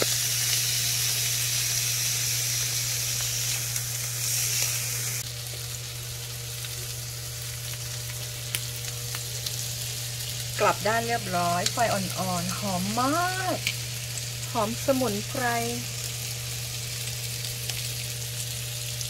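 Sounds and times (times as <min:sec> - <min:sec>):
chicken wings sizzling on a grill: 0:00.0 - 0:19.0.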